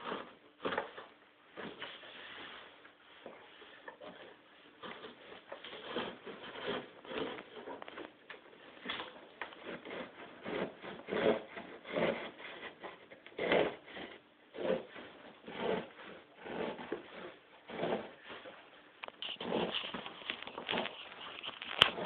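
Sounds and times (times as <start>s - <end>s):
knife sawing through cardboard: 0.0s - 22.0s.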